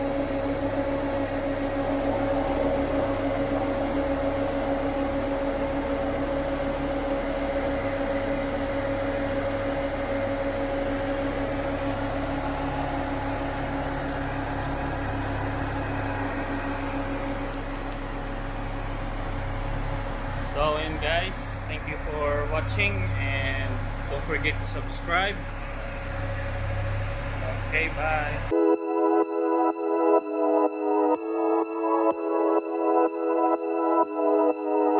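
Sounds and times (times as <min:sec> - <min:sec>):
car engine idling: 0:00.0 - 0:28.6.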